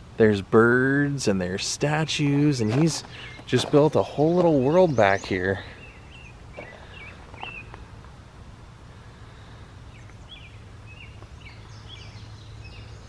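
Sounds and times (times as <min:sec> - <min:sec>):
birds chirping: 0:00.0 - 0:13.0
low background hum: 0:00.0 - 0:13.0.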